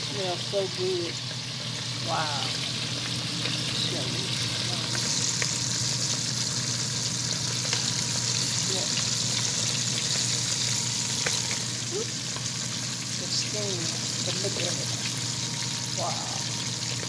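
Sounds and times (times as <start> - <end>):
fish deep-frying in hot oil: 0.0 - 17.0.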